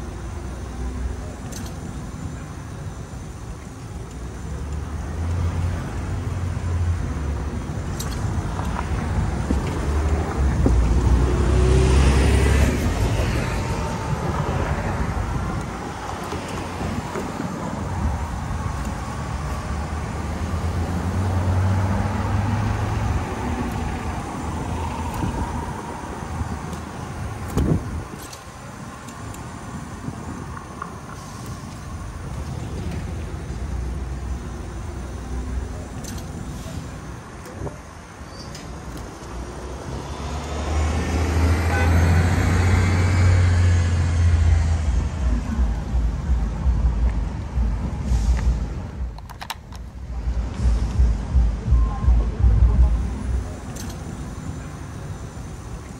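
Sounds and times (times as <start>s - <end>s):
cars passing close by: 0.0s - 55.9s.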